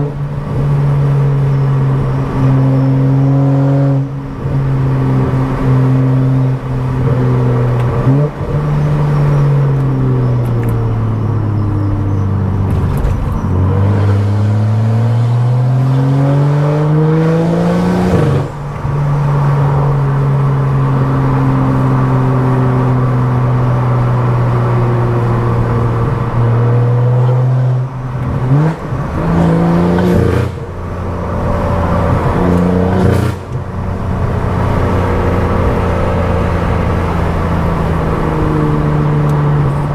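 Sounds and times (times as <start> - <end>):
car engine and loud exhaust: 0.0 - 39.9.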